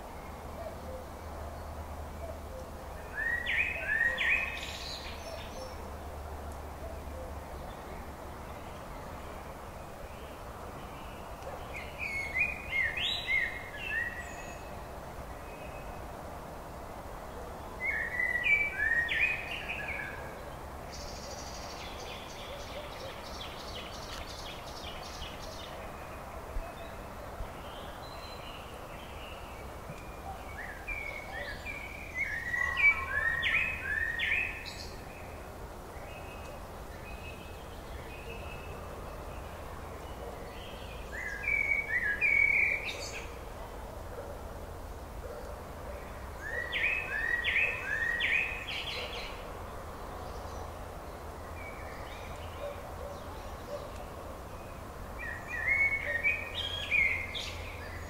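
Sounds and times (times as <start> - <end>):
background hiss: 0.0 - 58.0
songbirds chirping: 0.0 - 58.0.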